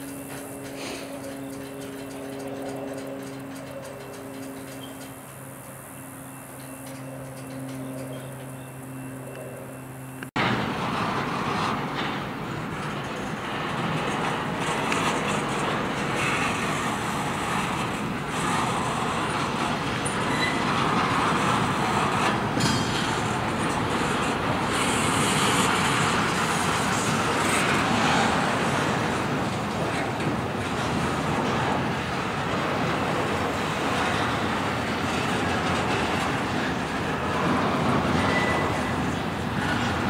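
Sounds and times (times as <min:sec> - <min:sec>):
freight train wheels rumbling: 0:00.0 - 0:40.0.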